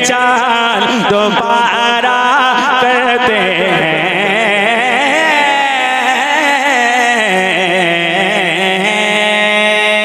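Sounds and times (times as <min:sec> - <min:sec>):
man singing: 0:00.0 - 0:10.0.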